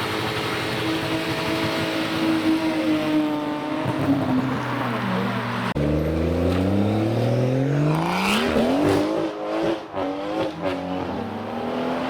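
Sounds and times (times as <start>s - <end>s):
car accelerating hard: 0.3s - 12.0s.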